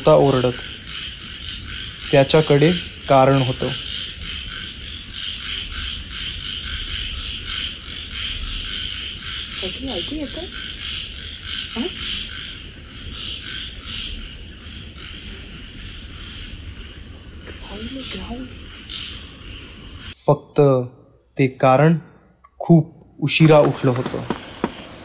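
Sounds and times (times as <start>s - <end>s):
frogs and insects calling: 0.0s - 22.5s, 23.3s - 25.0s.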